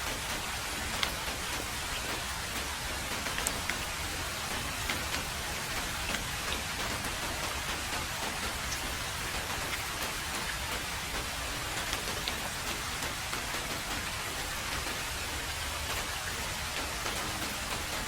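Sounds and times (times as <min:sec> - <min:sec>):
heavy rain on a road: 0:00.0 - 0:18.0
raindrops ticking: 0:00.0 - 0:18.0.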